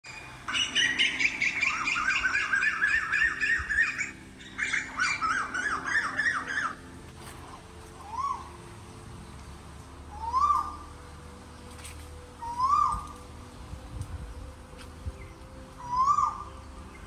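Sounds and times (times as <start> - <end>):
birds calling: 0.0 - 13.4, 14.3 - 17.0.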